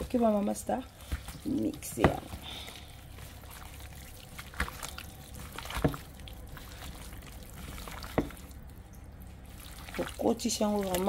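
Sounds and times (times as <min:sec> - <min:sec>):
wet squelching of chicken wings: 0:00.3 - 0:11.0
sharp wet smacks: 0:01.0 - 0:08.7, 0:09.6 - 0:11.0.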